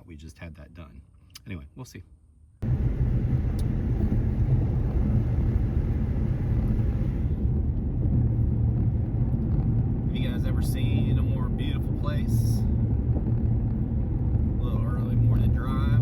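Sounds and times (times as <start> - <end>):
car road and engine rumble: 2.6 - 16.0.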